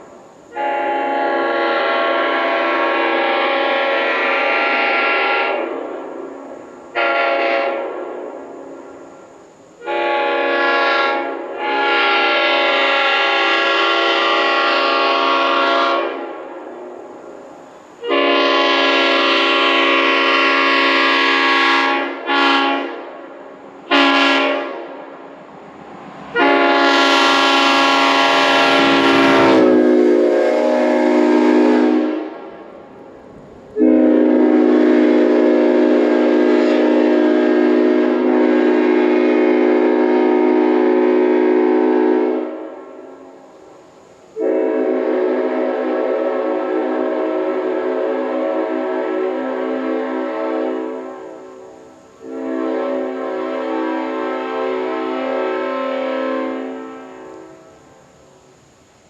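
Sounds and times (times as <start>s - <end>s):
train horn chord blasts: 0.5s - 5.8s, 6.9s - 8.2s, 9.8s - 16.5s, 18.0s - 23.3s, 23.9s - 25.2s, 26.3s - 32.6s, 33.8s - 43.3s, 44.4s - 58.1s.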